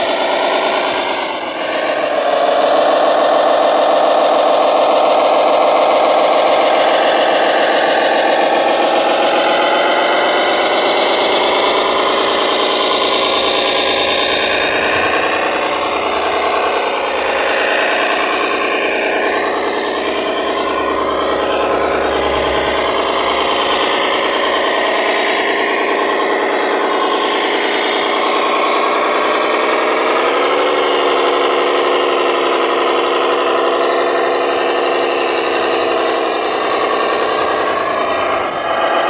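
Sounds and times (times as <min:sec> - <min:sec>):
small electric motors whirring: 0:00.0 - 0:39.0.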